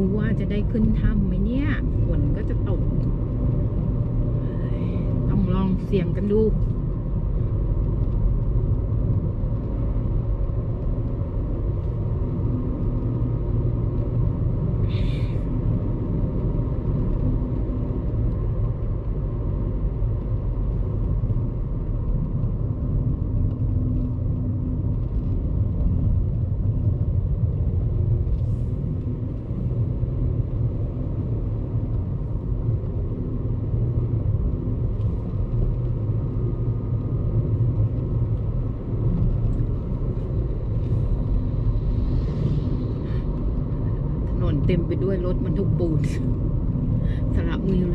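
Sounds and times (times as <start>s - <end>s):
car driving on highway: 0.0s - 47.9s.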